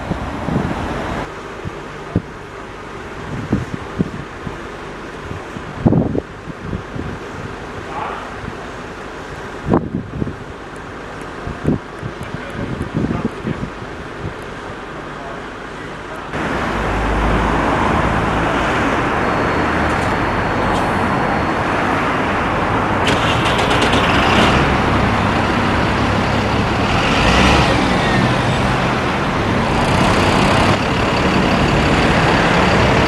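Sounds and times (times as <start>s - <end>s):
heavy vehicle engine running: 0.0s - 33.0s
traffic noise: 0.0s - 33.0s.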